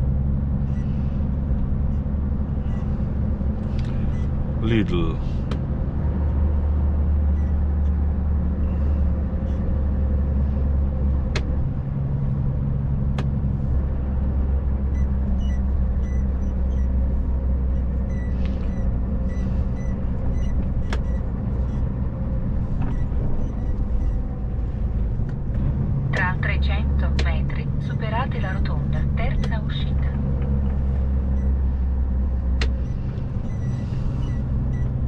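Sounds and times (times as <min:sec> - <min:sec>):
lorry diesel engine running: 0:00.0 - 0:35.0
road noise: 0:00.0 - 0:35.0.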